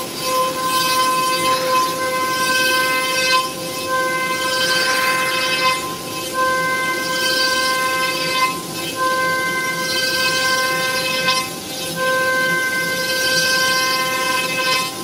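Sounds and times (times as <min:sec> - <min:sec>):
foam cutting machine whine: 0:00.0 - 0:15.0.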